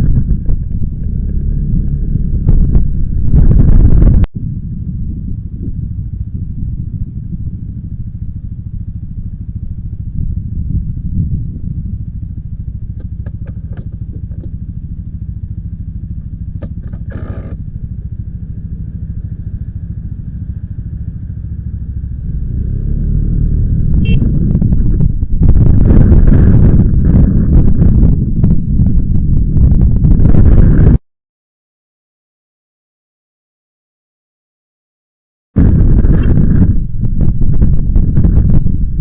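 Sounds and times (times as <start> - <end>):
motorcycle engine running: 0.0 - 31.0, 35.6 - 39.0.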